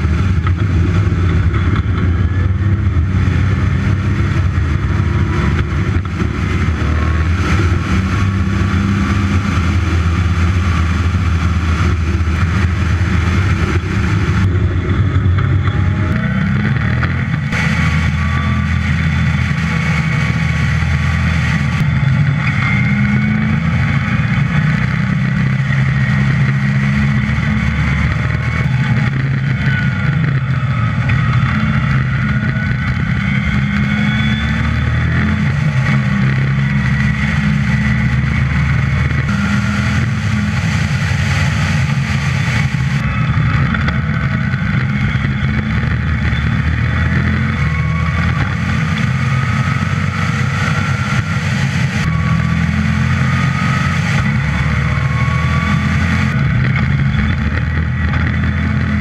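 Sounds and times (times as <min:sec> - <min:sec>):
car engine revving hard: 0:00.0 - 0:59.0
wind noise: 0:00.0 - 0:59.0.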